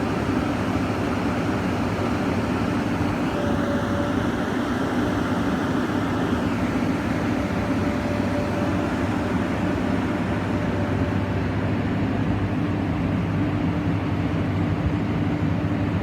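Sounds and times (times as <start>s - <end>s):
excavator diesel engine running: 0.1s - 16.0s.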